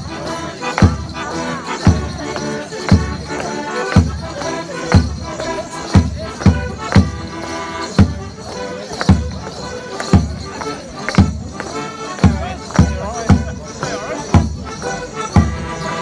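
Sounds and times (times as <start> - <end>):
folk band playing dance tune: 0.0 - 16.0
jingling rattle: 0.0 - 16.0.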